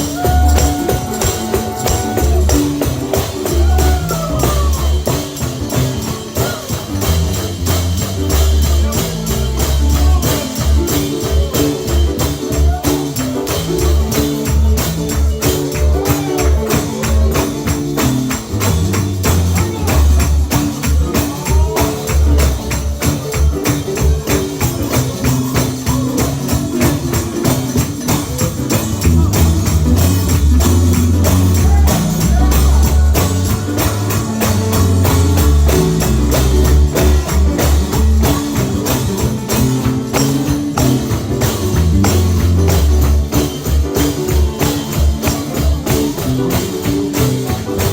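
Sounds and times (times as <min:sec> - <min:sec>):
deep bass line: 0:00.0 - 0:46.6
live gospel music: 0:00.0 - 0:47.9
tambourine beats: 0:00.0 - 0:47.9.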